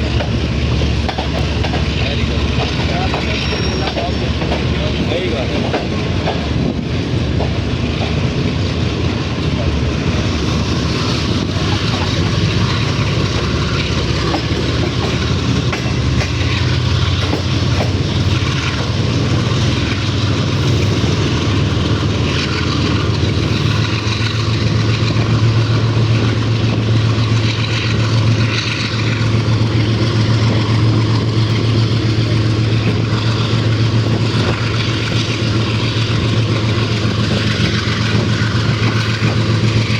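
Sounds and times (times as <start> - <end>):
locomotive engine drone: 0.0 - 39.9
moving train noise: 0.0 - 39.9.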